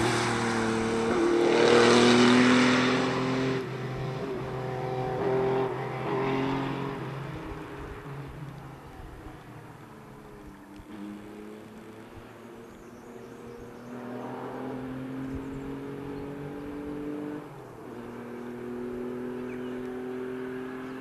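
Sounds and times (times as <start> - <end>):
distant rally car accelerating: 0.0 - 21.0.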